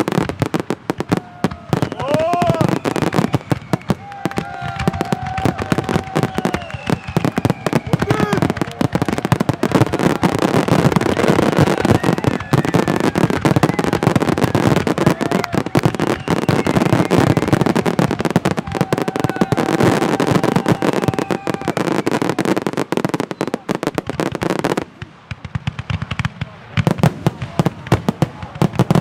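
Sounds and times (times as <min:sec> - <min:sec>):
fireworks crackling and banging: 0:00.0 - 0:29.0.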